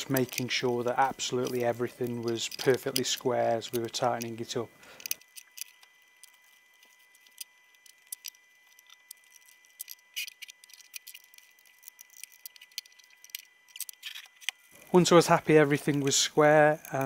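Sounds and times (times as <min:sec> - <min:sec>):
metal parts clicking and tapping: 0:00.0 - 0:14.6
faint steady high tone: 0:00.0 - 0:17.0.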